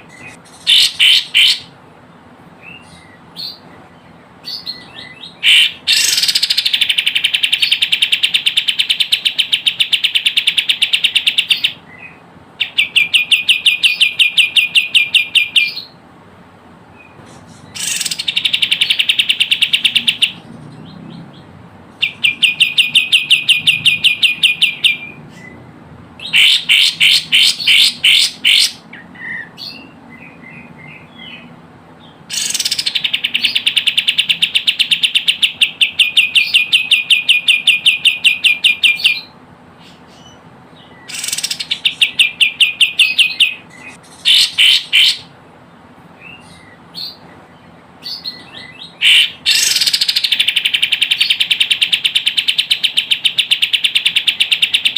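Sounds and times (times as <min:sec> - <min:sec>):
bird chirping rapidly: 0:00.0 - 0:16.0, 0:16.8 - 0:54.9.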